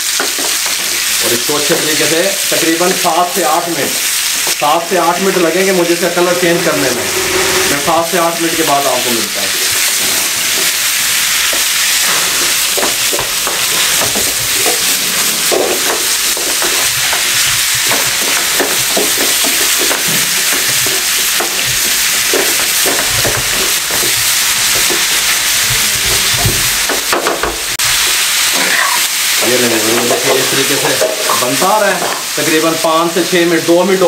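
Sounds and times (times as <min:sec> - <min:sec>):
chicken sizzling in oil: 0:00.0 - 0:34.0
wooden spoon scraping wok: 0:00.1 - 0:27.2, 0:27.8 - 0:32.4.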